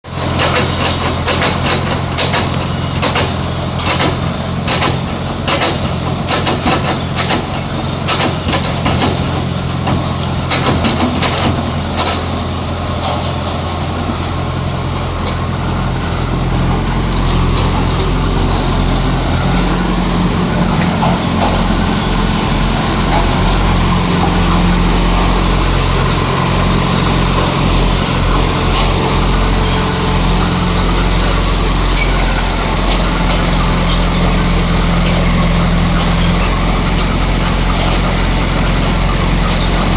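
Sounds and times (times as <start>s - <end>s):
heavy engine drone: 0.0s - 39.9s.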